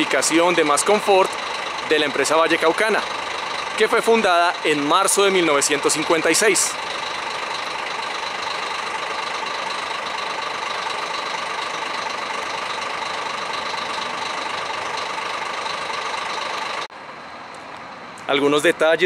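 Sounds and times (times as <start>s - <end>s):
bus diesel engine idling: 0.0s - 17.2s.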